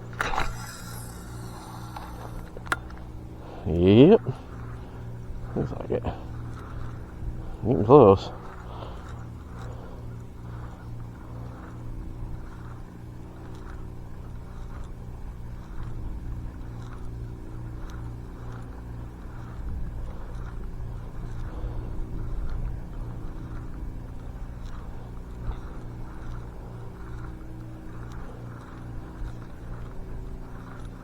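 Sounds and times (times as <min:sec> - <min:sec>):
faint ticks: 0:00.0 - 0:03.3, 0:08.3 - 0:31.0
low mechanical hum: 0:00.0 - 0:31.0.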